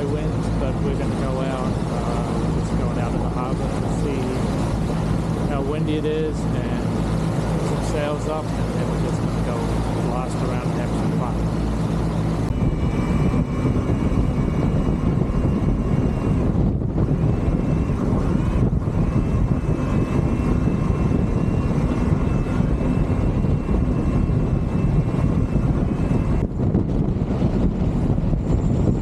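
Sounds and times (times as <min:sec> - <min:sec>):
faint steady whine: 0:00.0 - 0:29.0
wind buffeting microphone: 0:00.0 - 0:29.0.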